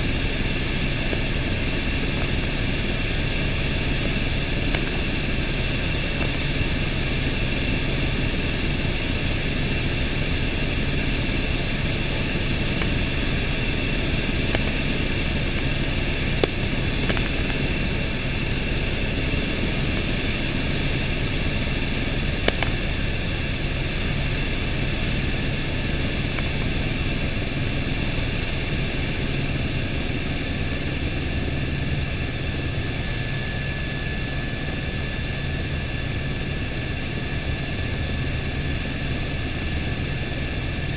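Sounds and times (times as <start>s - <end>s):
helicopter engine and rotor noise: 0.0s - 40.9s.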